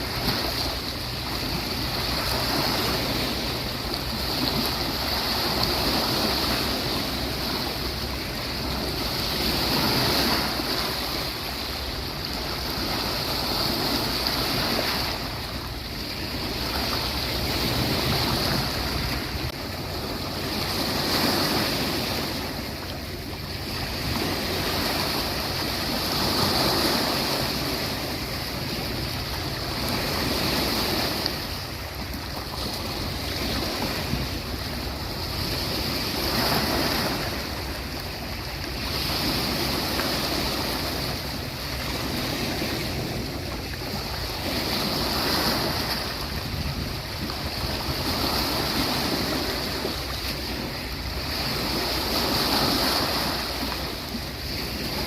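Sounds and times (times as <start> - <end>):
sea waves washing onto beach: 0.0 - 55.0.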